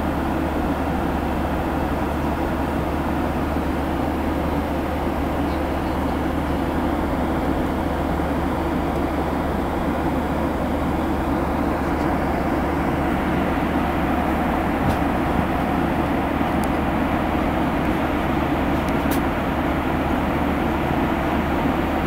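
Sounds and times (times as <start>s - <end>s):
airliner cabin engine drone: 0.0s - 22.0s.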